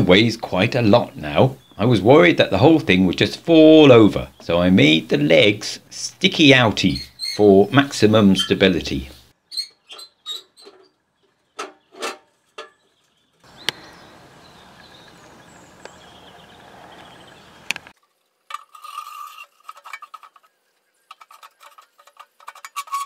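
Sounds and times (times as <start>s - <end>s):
steady outdoor hiss: 0.0s - 9.5s, 13.1s - 22.5s.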